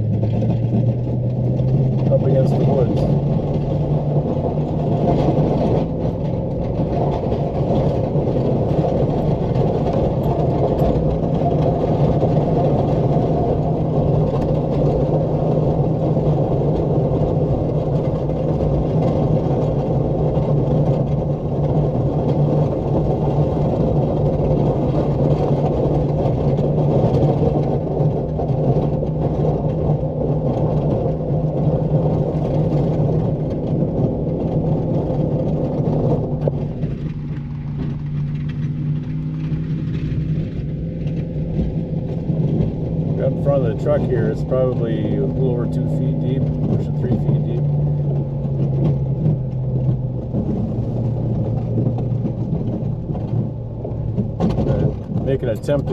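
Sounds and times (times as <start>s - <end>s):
truck engine running under load: 0.0s - 55.9s.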